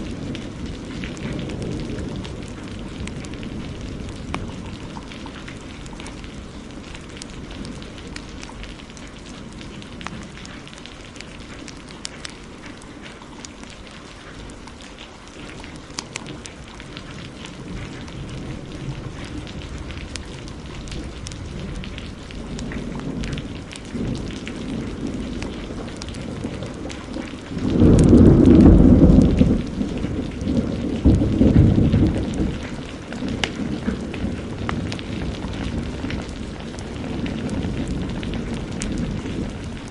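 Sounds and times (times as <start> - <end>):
thunder rumbling: 0.0 - 12.8, 13.8 - 39.9
heavy rain falling: 0.0 - 39.9
wood fire crackling: 0.0 - 39.9.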